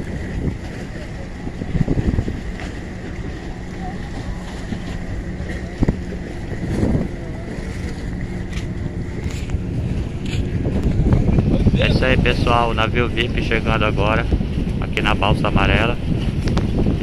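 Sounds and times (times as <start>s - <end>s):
boat engine droning: 0.0s - 17.0s
choppy river water: 0.0s - 17.0s
wind buffeting microphone: 0.0s - 17.0s.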